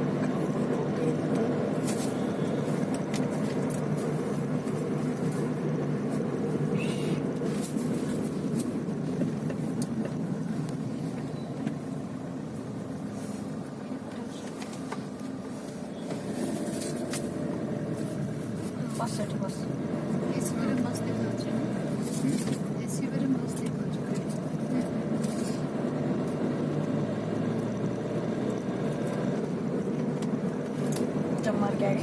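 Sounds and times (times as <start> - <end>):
car cabin road rumble: 0.0 - 32.0.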